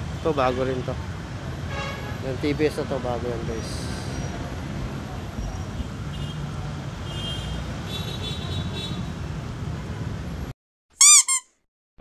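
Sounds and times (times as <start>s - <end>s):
road traffic rumble: 0.0s - 11.4s.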